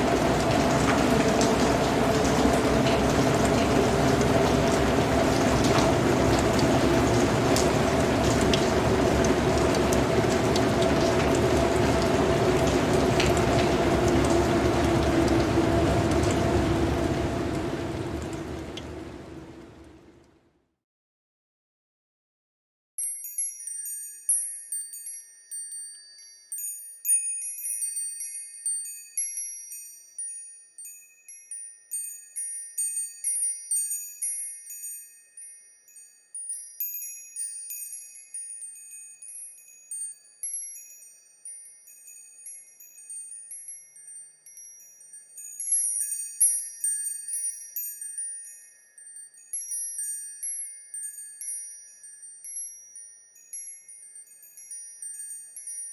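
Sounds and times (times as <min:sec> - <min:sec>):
wind chimes ringing: 0:00.0 - 0:18.6, 0:23.0 - 0:55.9.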